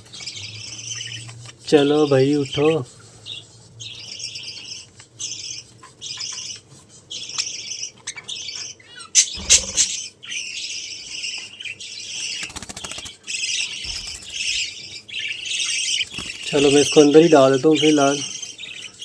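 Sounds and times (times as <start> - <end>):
budgerigars chattering: 0.0 - 19.0.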